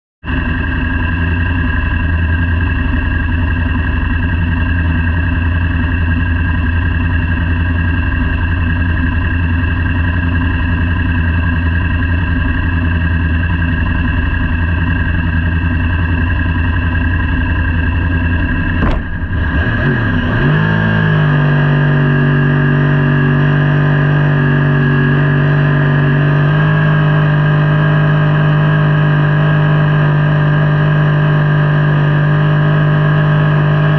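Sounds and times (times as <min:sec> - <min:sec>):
motorcycle engine revving: 0:00.4 - 0:33.9.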